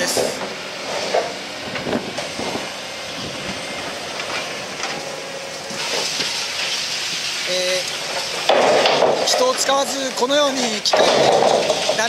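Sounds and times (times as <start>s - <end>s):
excavator rumbling on tracks: 0.0s - 12.0s.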